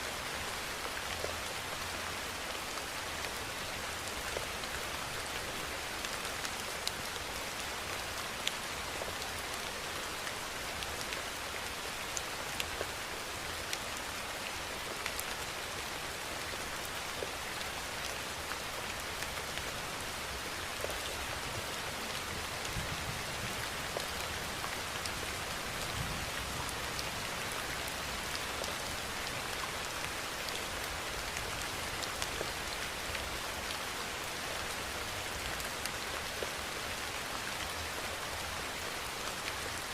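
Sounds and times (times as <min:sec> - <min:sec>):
steady rain hiss: 0:00.0 - 0:39.9
raindrops ticking on a surface: 0:00.4 - 0:39.9.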